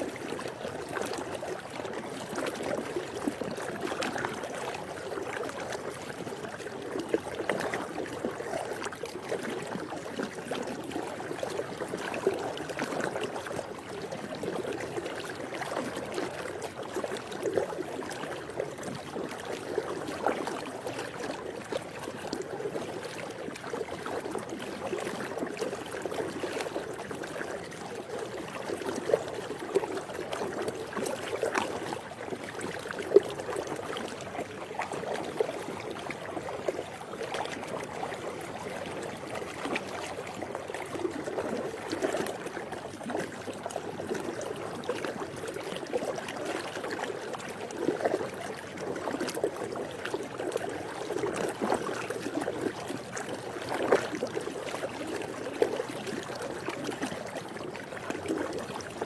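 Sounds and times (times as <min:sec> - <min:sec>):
pool water lapping: 0:00.0 - 0:59.0.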